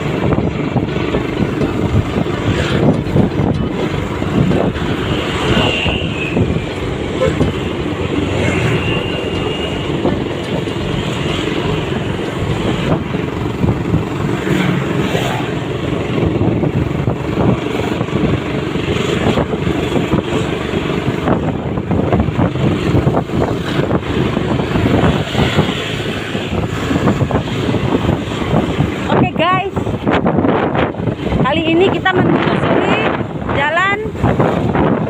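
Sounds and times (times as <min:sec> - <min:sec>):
vehicle running on road: 0:00.0 - 0:35.0
wind buffeting microphone: 0:00.0 - 0:35.0.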